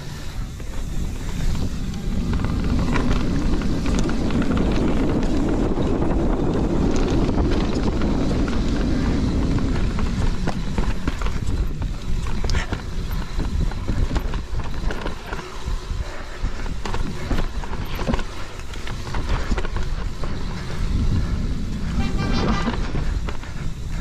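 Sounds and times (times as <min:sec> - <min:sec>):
bike clicks and rattles: 0:00.0 - 0:24.0
tyres rumbling on dirt: 0:00.0 - 0:24.0
wind on microphone: 0:00.0 - 0:24.0.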